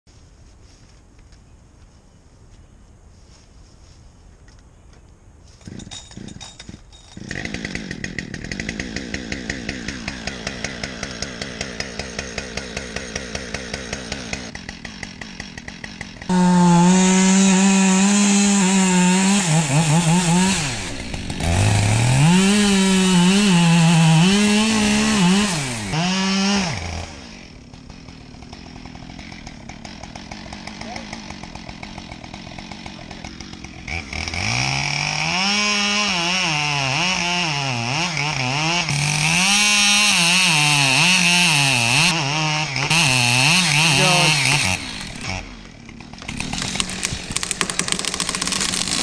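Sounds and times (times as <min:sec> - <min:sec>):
chainsaw pull-started: 0:05.6 - 0:17.6, 0:18.2 - 0:35.5, 0:38.2 - 0:49.0
chainsaw cutting wood: 0:05.6 - 0:49.0
chainsaw idling: 0:05.7 - 0:49.0.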